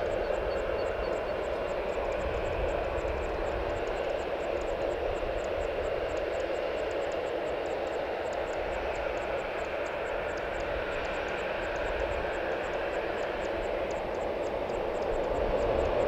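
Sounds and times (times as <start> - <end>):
auxiliary power units droning: 0.0 - 16.0.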